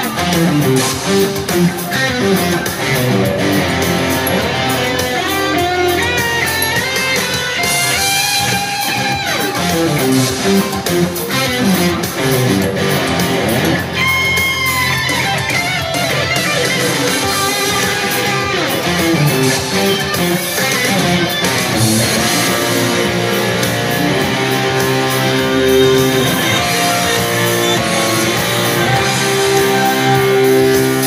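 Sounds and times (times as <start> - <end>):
backing track: 0.0 - 31.0
overdriven electric guitar solo: 0.0 - 31.0.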